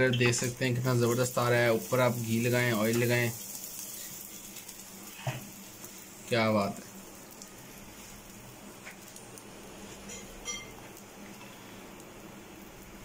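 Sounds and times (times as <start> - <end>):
flatbread sizzling on griddle: 0.0 - 13.0.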